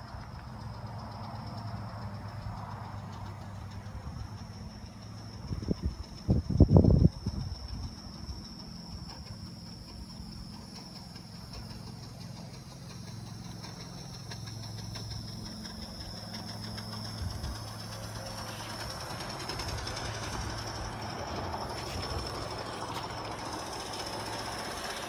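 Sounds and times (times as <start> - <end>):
faint rhythmic ticking: 0.0 - 25.0
model steam locomotive running: 0.0 - 25.0
steady high-pitched tone: 3.9 - 25.0.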